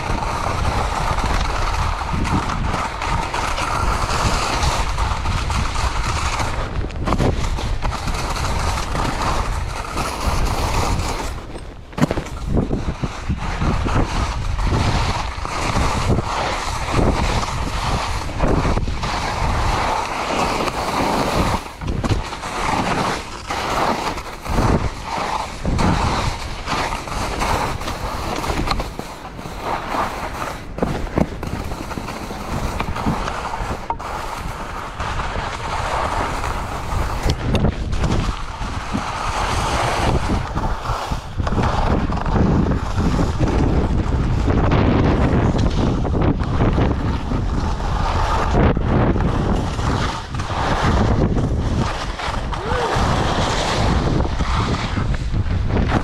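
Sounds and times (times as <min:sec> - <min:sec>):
skis scraping over snow: 0:00.0 - 0:56.0
wind on microphone: 0:00.0 - 0:56.0.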